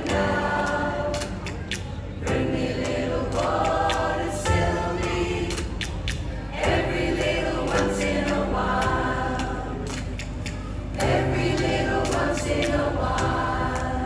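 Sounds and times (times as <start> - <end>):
choir singing harmonised notes: 0.0 - 10.2, 10.9 - 14.0.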